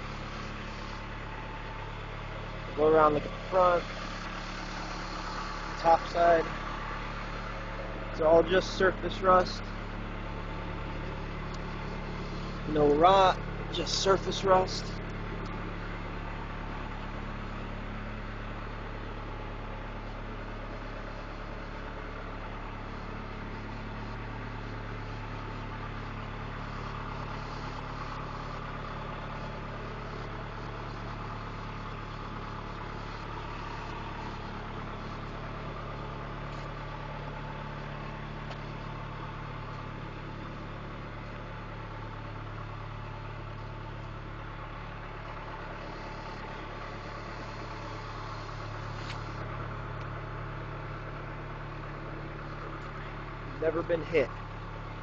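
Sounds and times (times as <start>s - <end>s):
engine idling hum: 0.0s - 55.0s.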